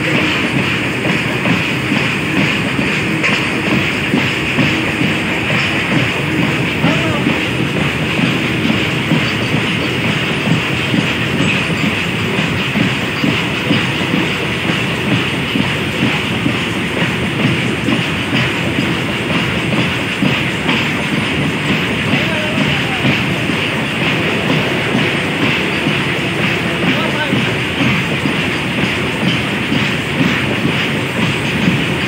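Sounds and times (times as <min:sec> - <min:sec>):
freight train rumbling: 0:00.0 - 0:32.0
wheel squealing on rail: 0:00.0 - 0:32.0
wheels clattering over rails: 0:00.0 - 0:32.0.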